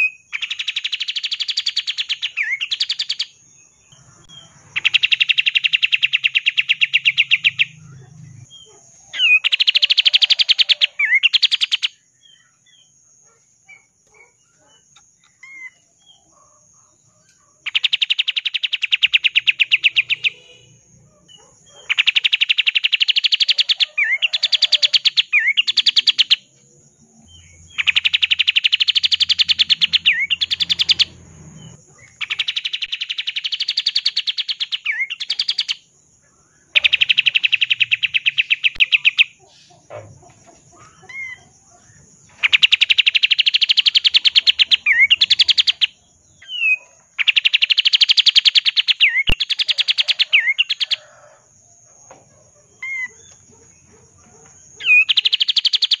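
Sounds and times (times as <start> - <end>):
bird trilling: 0.0 - 12.7, 17.6 - 26.5, 27.3 - 35.9, 36.7 - 40.0, 40.7 - 51.4, 52.8 - 53.5, 54.3 - 56.0.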